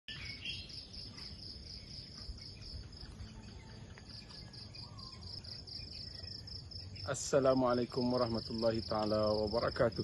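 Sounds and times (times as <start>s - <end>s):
insects pulsing trill: 0.1s - 10.0s.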